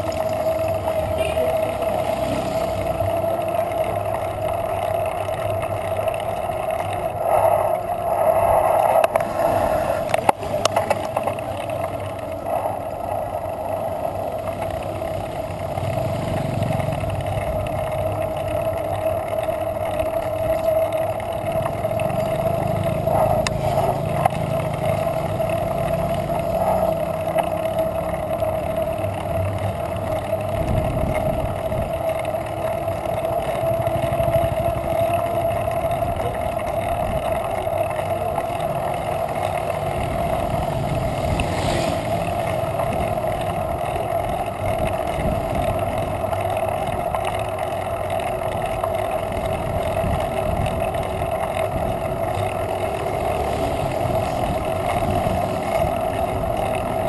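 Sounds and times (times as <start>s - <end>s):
motorcycle engine rumble: 0.0s - 57.0s
muffled wind and road noise: 0.0s - 57.0s.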